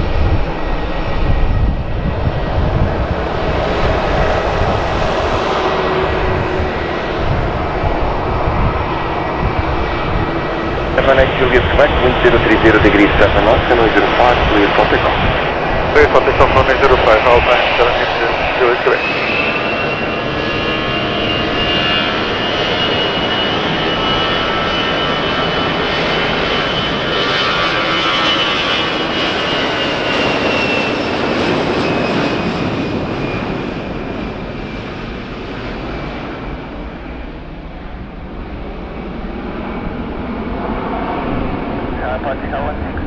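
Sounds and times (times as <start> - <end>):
high jet whine: 0.0 - 43.0
jet engine roar: 0.0 - 43.0.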